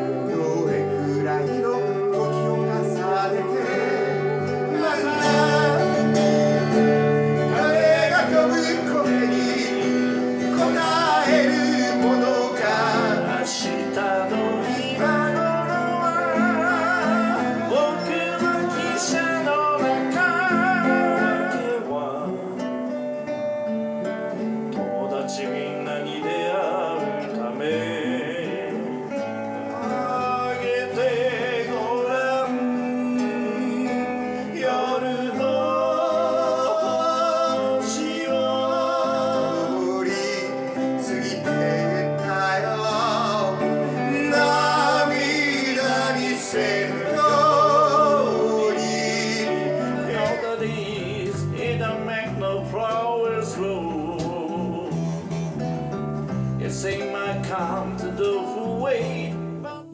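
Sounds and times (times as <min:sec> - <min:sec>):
men singing with vibrato: 0:00.0 - 0:23.7, 0:24.3 - 0:55.6, 0:56.5 - 0:59.9
archtop guitar: 0:00.0 - 0:59.9
strummed acoustic guitar: 0:00.0 - 0:59.9.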